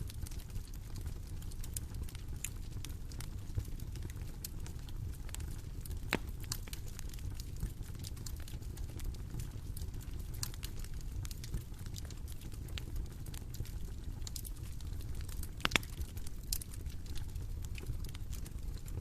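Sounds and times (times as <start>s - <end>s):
bonfire crackling: 0.0s - 19.0s.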